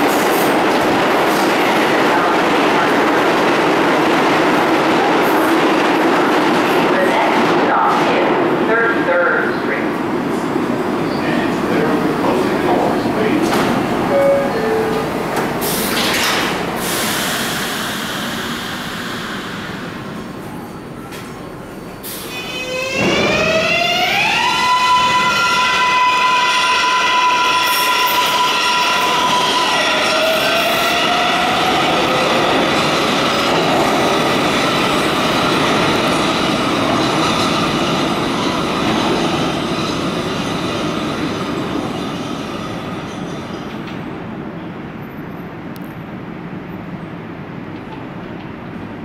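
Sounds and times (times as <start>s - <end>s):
subway train electric whine: 0.0s - 49.0s.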